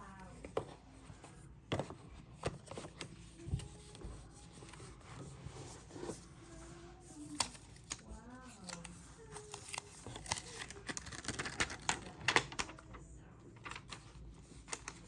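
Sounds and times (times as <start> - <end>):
tablet and packaging handling: 0.0 - 13.0.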